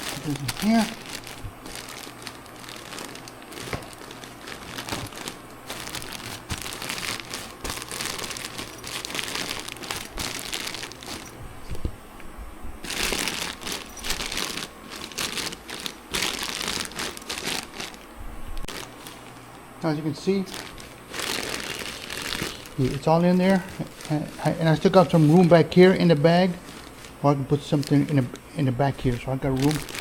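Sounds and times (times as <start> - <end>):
plastic bag crinkling: 0.0 - 11.9, 12.8 - 30.0.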